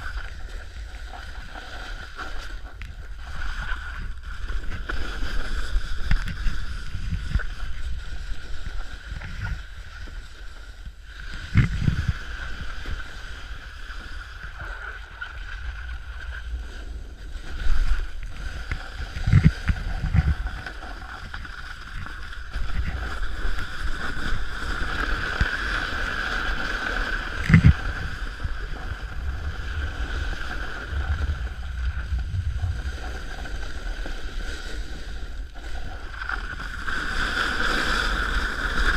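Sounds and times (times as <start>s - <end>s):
snowboard scraping on icy snow: 0.0s - 38.9s
wind rumble on microphone: 0.0s - 38.9s.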